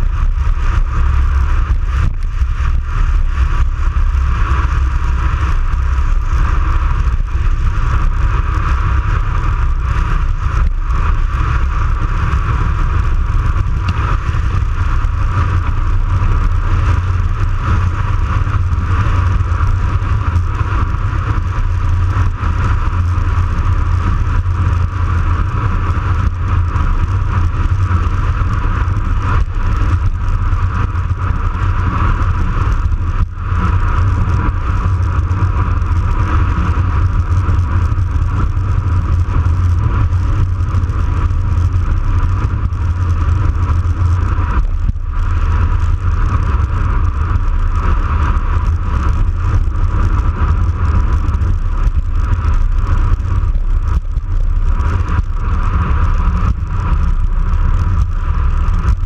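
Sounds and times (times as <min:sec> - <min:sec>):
bicycle tyres humming on asphalt: 0:00.0 - 0:59.0
wind rushing on microphone: 0:00.0 - 0:59.0.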